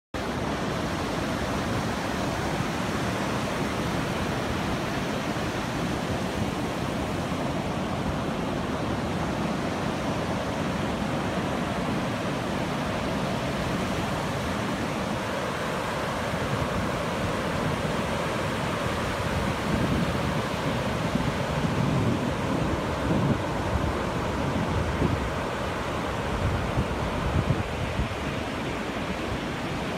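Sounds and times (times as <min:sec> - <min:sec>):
ocean surf breaking: 0:00.2 - 0:29.9.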